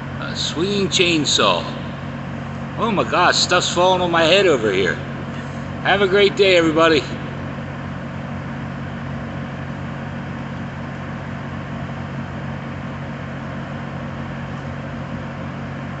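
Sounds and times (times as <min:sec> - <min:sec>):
engine humming drone: 0:00.0 - 0:16.0.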